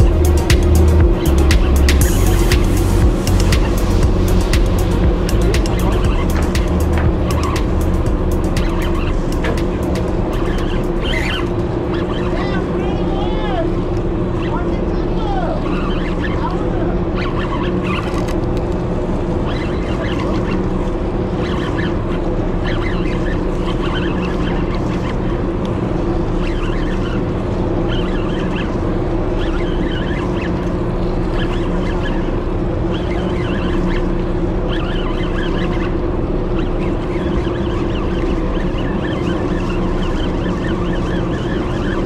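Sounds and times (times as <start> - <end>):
boat engine drone: 0.0 - 42.0.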